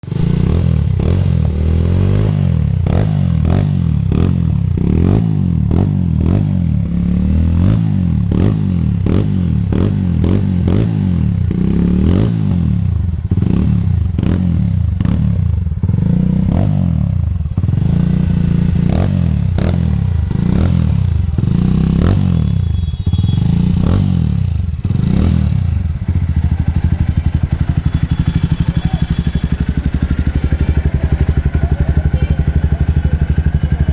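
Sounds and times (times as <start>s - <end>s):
motorcycle revving and idling: 0.0s - 33.9s.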